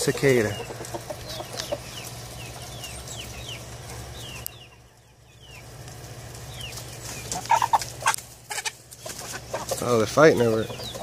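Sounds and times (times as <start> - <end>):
hens clucking: 0.0 - 11.0
steady low hum: 0.0 - 11.0.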